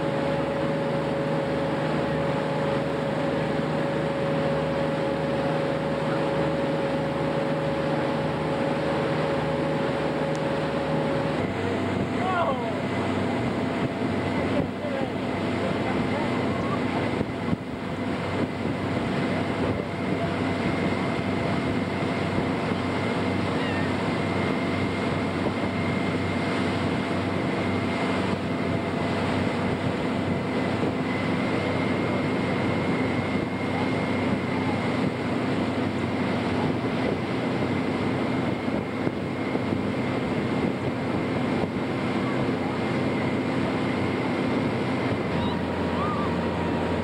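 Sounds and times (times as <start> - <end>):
motorboat engine running: 0.0 - 47.0
water rushing in wake: 0.0 - 47.0.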